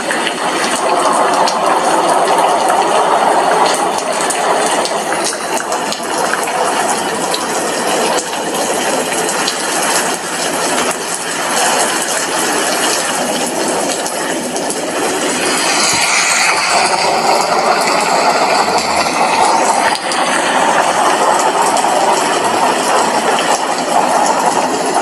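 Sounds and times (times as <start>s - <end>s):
rain on glass window: 0.0s - 25.0s.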